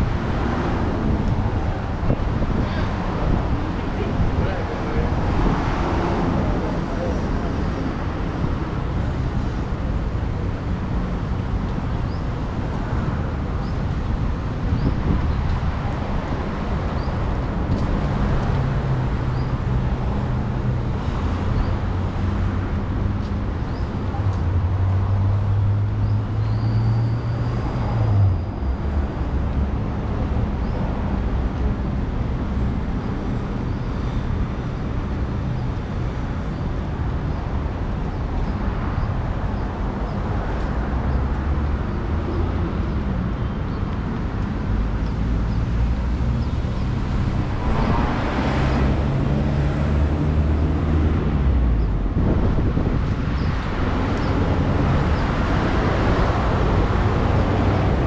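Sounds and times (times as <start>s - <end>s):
engine hum: 0.0s - 58.0s
street traffic noise: 0.0s - 58.0s.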